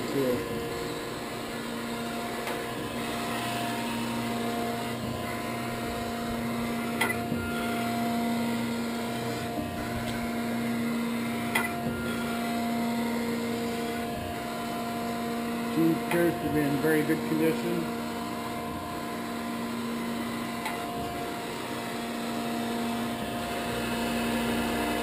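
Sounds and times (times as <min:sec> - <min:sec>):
surface grinder humming: 0:00.0 - 0:25.0.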